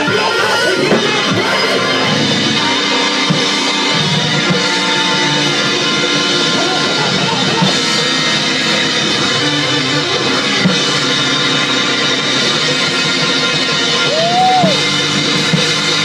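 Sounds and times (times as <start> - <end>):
drawbar organ playing church music: 0.0 - 16.0
drums playing: 0.0 - 16.0.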